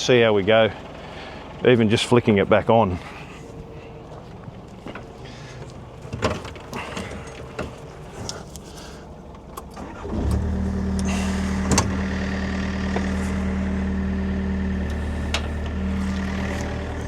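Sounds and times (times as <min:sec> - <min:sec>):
diesel engine starting and idling: 0:00.0 - 0:17.0.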